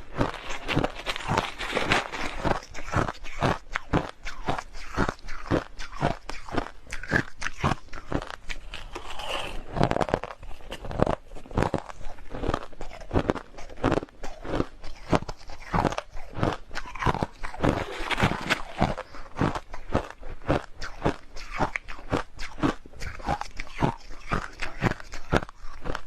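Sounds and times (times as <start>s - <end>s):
person chewing crushed ice: 0.0s - 26.0s.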